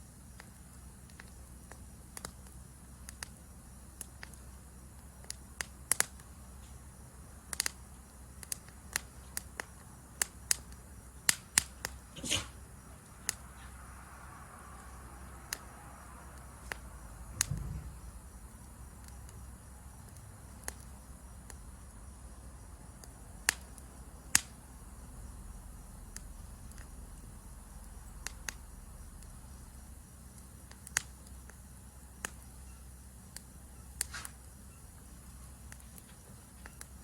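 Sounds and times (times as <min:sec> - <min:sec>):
campfire crackling and popping: 0:00.0 - 0:37.0
insects chirring: 0:00.0 - 0:37.0.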